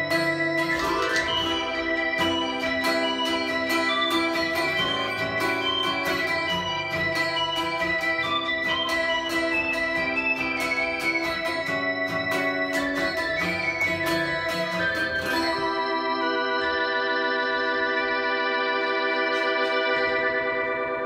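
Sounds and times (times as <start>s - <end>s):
electric keyboard chords: 0.0s - 21.0s
strummed acoustic guitar: 0.0s - 21.0s.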